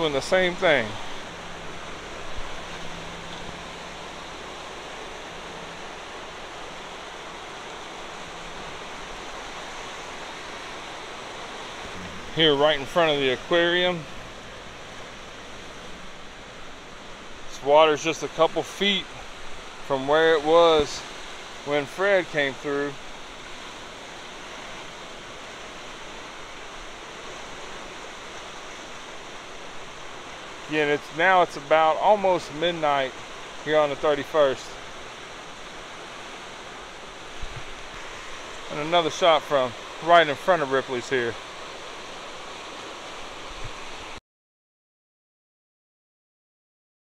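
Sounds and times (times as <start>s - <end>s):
river rushing through rapids: 0.0s - 44.2s.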